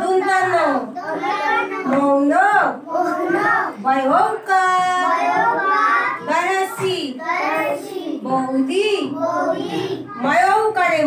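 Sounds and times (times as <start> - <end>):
children chanting words: 0.0 - 11.0.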